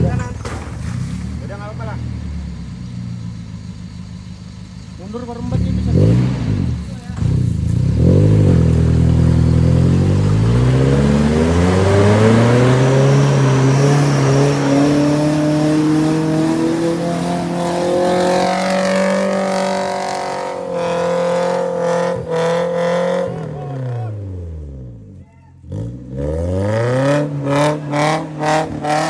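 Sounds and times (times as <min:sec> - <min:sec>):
engine revving hard: 0:05.3 - 0:29.0.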